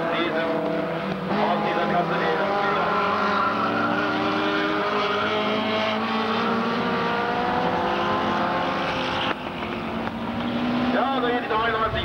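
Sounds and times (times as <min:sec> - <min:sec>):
small race car engines: 0:00.0 - 0:12.0.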